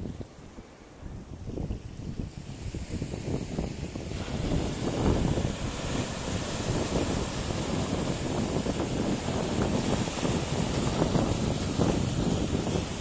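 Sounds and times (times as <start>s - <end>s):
sea waves breaking on rocks: 1.5s - 13.0s.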